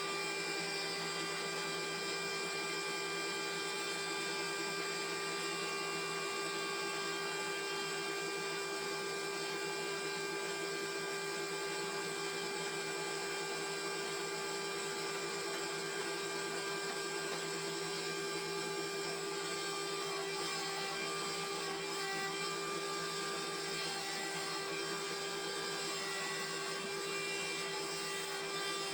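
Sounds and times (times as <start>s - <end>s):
sawmill machinery motor whine: 0.0s - 28.9s.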